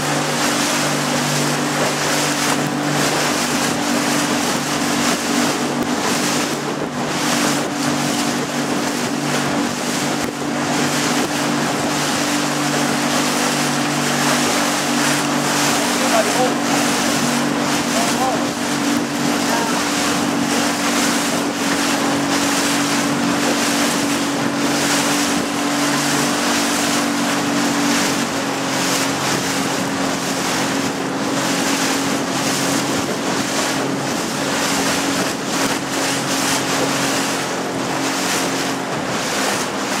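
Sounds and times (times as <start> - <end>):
boat motor running: 0.0 - 40.0
water rushing past hull: 0.0 - 40.0
wind buffeting microphone: 0.0 - 40.0.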